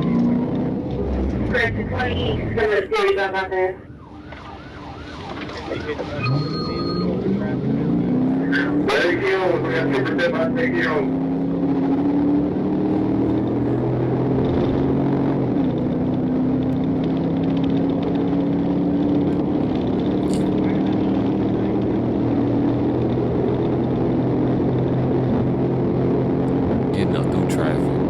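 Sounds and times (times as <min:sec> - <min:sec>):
car engine at high speed: 0:00.0 - 0:28.0
road and wind noise: 0:00.0 - 0:28.0.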